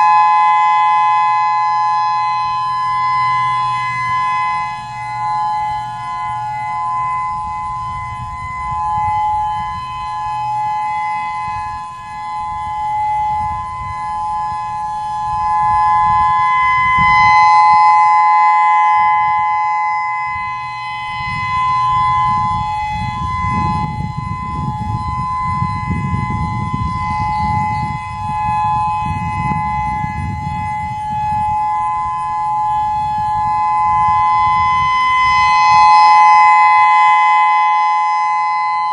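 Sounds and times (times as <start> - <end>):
two-note warning siren: 0.0 - 38.9
wind rumbling on microphone: 0.0 - 38.9.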